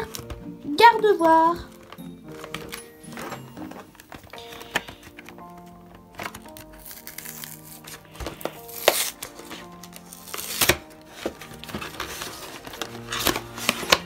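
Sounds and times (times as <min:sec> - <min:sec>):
background music: 0:00.0 - 0:14.0
cardboard and plastic crinkling: 0:00.0 - 0:14.0
packaging snaps: 0:00.0 - 0:14.0.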